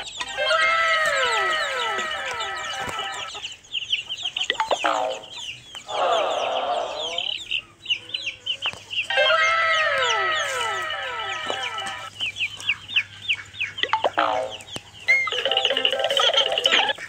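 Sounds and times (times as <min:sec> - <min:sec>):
chickens clucking: 0:00.0 - 0:17.0
chicks peeping: 0:00.0 - 0:17.0.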